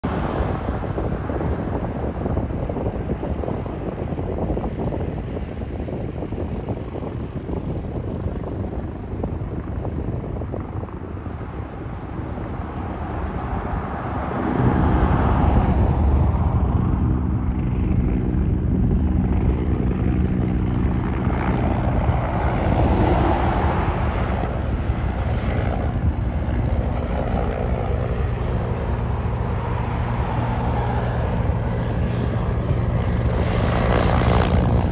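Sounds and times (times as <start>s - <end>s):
helicopter rotor and turbines: 0.0s - 34.9s.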